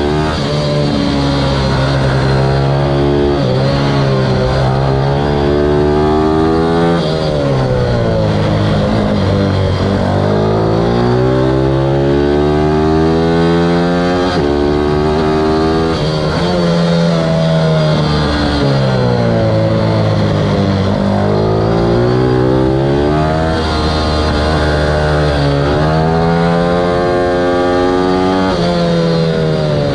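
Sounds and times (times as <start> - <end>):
minibike engine at race pace: 0.0 - 29.9.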